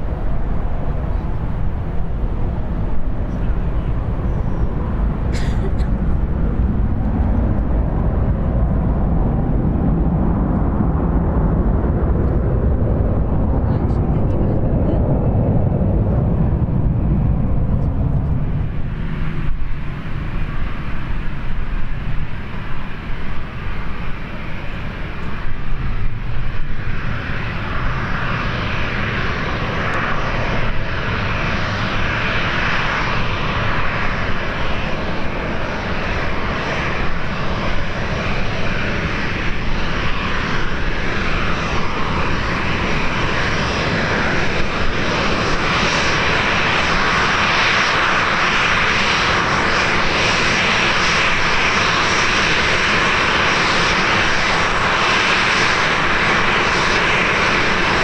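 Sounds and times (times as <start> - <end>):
jet engines roaring: 0.0 - 58.0
wind rumble on microphone: 0.0 - 58.0.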